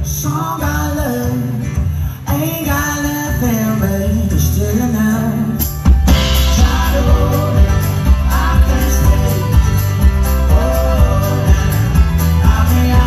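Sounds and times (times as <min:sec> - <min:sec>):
folk band playing and singing: 0:00.0 - 0:13.0.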